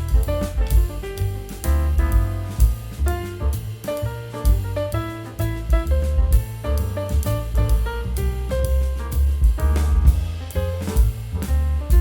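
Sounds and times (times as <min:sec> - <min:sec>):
up-tempo jazz instrumental: 0:00.0 - 0:12.0.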